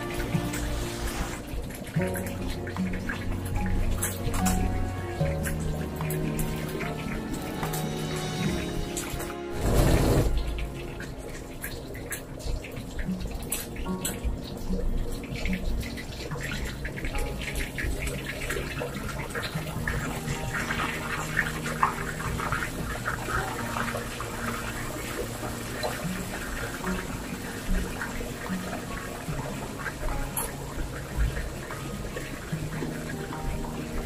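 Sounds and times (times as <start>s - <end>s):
fish deep-frying in oil: 0.0s - 34.0s.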